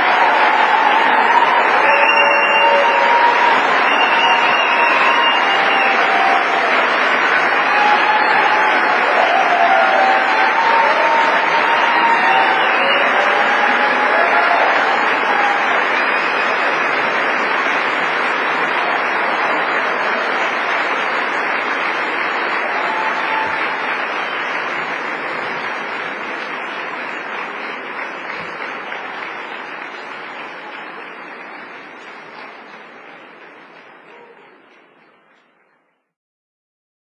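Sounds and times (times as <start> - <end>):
large audience applauding: 0.0 - 36.1.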